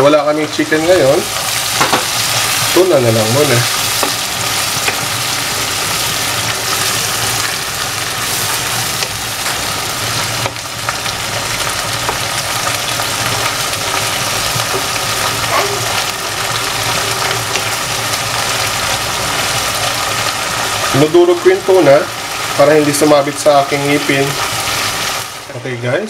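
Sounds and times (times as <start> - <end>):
food sizzling in butter: 0.0 - 25.8.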